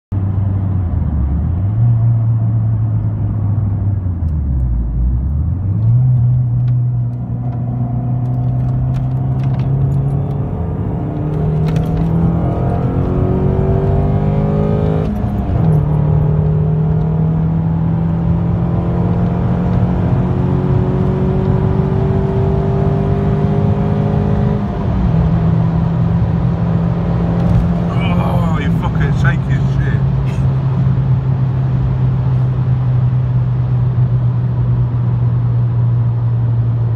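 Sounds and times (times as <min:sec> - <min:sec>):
car engine accelerating: 0:00.3 - 0:36.9.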